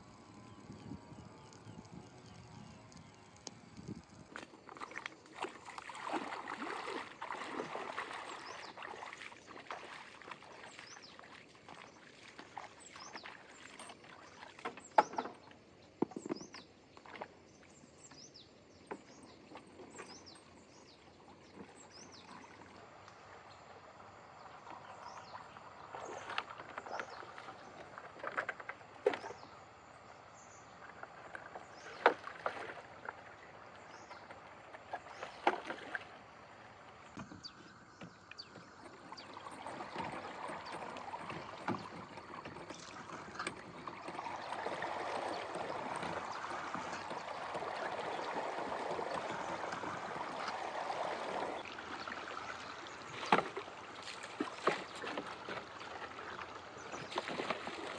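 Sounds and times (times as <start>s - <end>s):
water splashing and sloshing: 0.0s - 57.9s.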